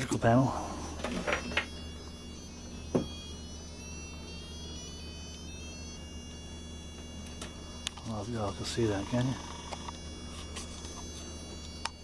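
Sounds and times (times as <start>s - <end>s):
high-pitched electronic whine: 0.0s - 12.0s
low hum: 0.0s - 12.0s.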